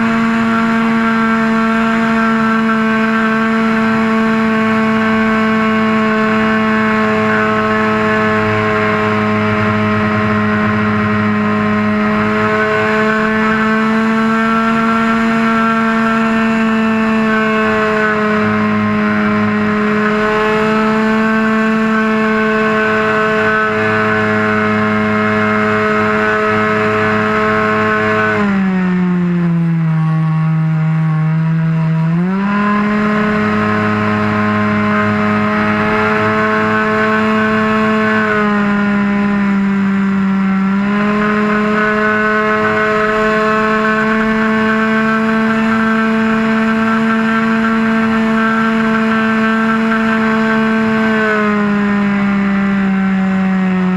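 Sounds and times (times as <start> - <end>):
model airplane engine running: 0.0 - 53.9.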